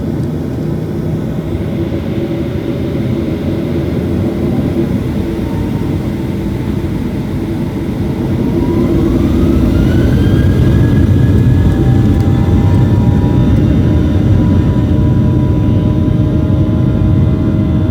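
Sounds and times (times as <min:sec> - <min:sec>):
jet engine whine rising in pitch: 0:00.0 - 0:17.9
jet engines rumbling: 0:00.0 - 0:17.9.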